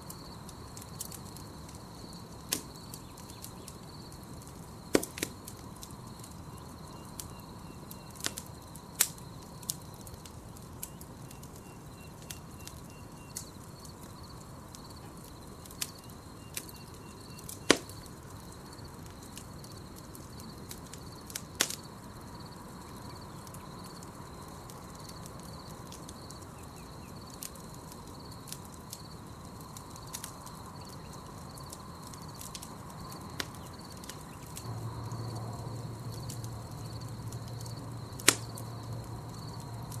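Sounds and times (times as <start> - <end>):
campfire crackling and popping: 0.0 - 40.0
night insects chirping: 0.0 - 40.0.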